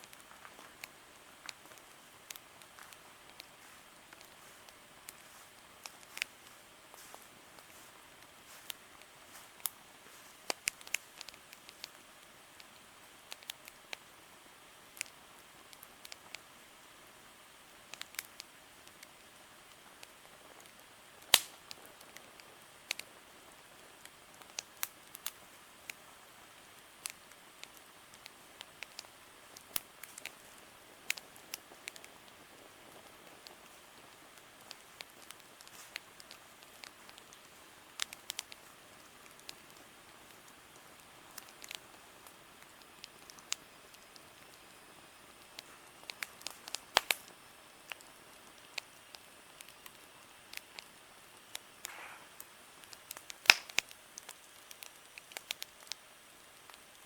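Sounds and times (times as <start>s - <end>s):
campfire crackling: 0.0s - 57.0s
faint steady hiss: 0.0s - 57.0s.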